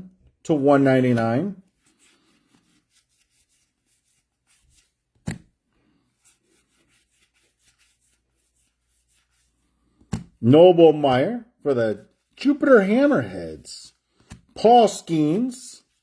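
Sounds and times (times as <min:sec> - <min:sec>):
trading cards rubbing and sliding: 0:01.1 - 0:10.4, 0:12.0 - 0:16.0.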